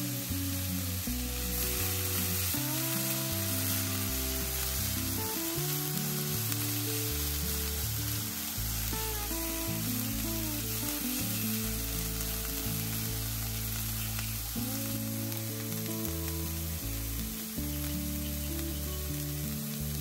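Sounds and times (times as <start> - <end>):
onion sizzling in oil: 0.0 - 20.0
slow low background music: 0.0 - 20.0.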